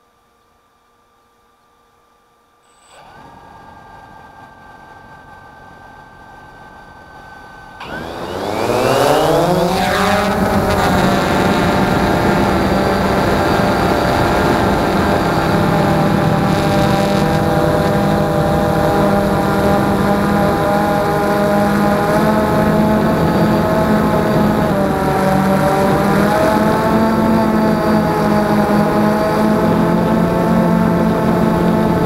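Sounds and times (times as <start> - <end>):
drone motors whining and buzzing: 2.7 - 32.0.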